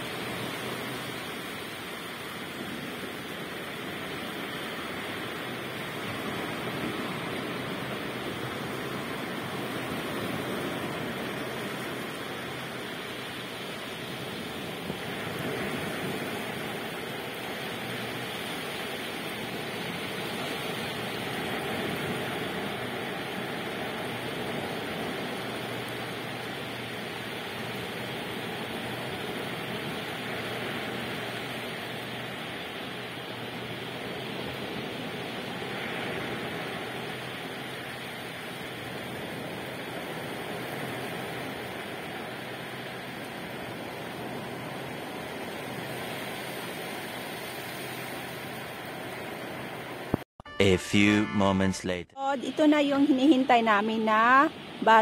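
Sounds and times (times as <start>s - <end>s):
sea surf breaking on beach: 0.0s - 50.2s.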